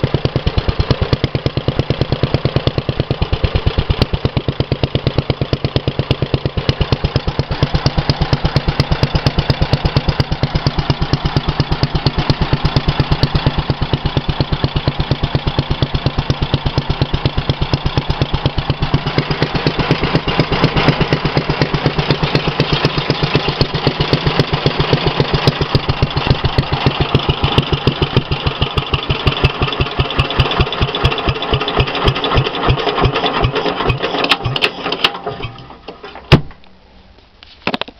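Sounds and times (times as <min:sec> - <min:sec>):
stationary engine running: 0:00.0 - 0:35.8.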